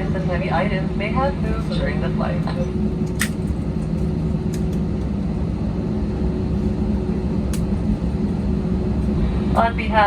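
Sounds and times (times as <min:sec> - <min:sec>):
airliner cabin rumble: 0:00.0 - 0:10.0
faint constant hum: 0:00.0 - 0:10.0.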